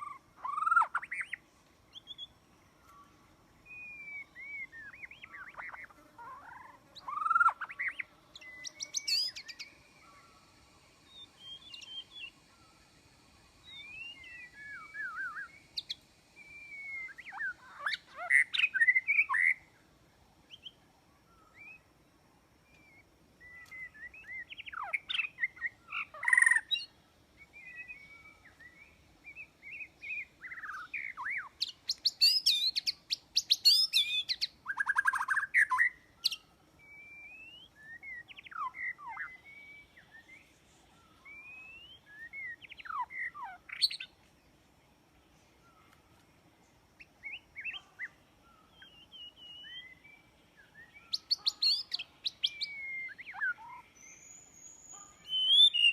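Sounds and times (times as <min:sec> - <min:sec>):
songbird singing whistled phrases: 0:00.0 - 0:02.4, 0:03.6 - 0:10.1, 0:11.0 - 0:19.7, 0:20.5 - 0:21.9, 0:22.7 - 0:44.2, 0:47.0 - 0:55.9.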